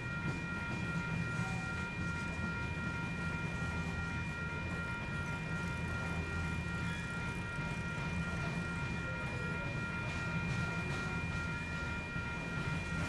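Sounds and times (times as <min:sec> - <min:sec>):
freight train wheels rumbling: 0:00.0 - 0:13.0
high multi-tone whine: 0:00.0 - 0:13.0.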